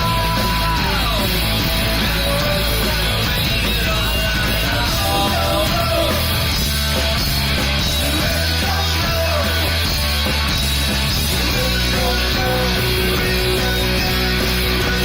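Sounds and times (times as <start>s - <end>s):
rock band music: 0.0s - 15.0s.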